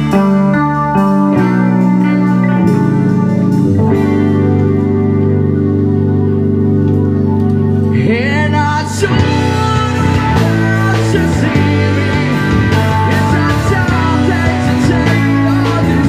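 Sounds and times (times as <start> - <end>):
lead guitar sliding up: 0.0 - 16.0
rock band playing: 0.0 - 16.0.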